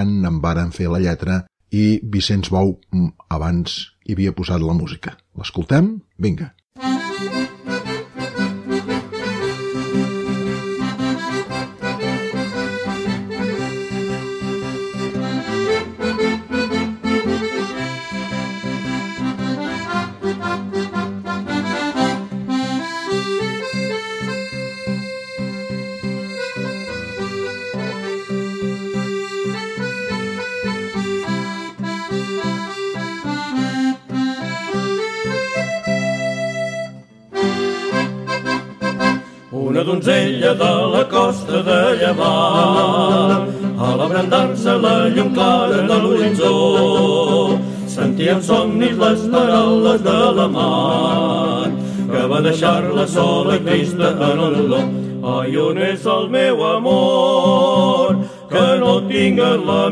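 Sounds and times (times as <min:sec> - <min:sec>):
accordion music: 0:06.8 - 0:59.9.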